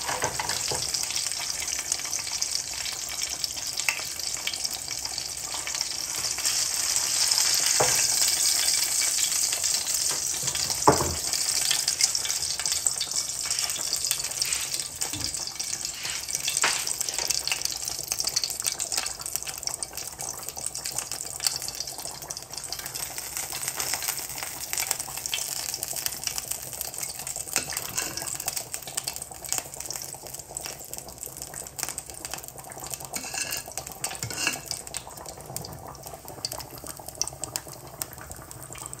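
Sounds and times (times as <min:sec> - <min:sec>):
food simmering with crackling pops: 0:00.0 - 0:39.0.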